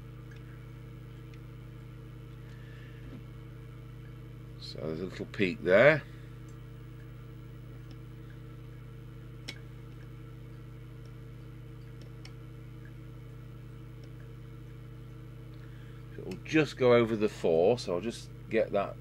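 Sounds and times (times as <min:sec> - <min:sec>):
low electrical mains hum: 0:00.0 - 0:19.0.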